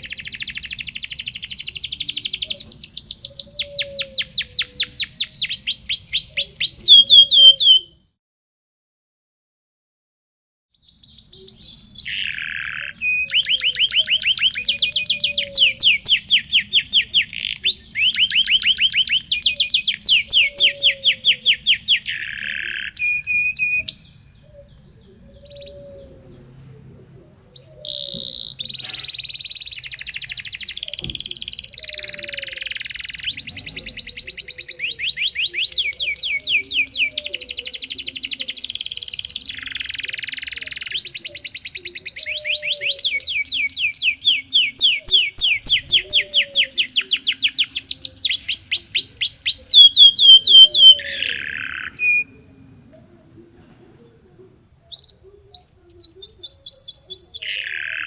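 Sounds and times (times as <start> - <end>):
canary singing trills: 0.0 - 8.1, 10.8 - 58.0.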